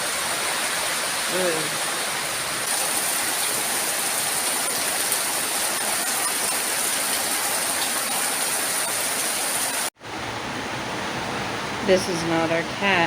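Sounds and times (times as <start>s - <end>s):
heavy rain in wind: 0.0s - 13.0s.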